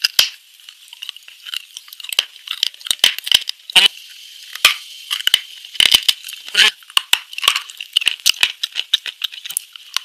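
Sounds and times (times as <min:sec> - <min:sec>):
biting and crunching hard pieces: 0:00.0 - 0:04.0, 0:04.6 - 0:10.0.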